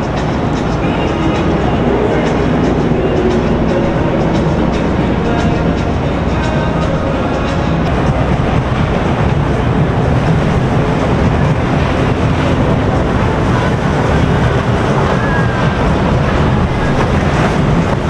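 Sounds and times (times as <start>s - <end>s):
boat engines rumbling: 0.0s - 18.0s.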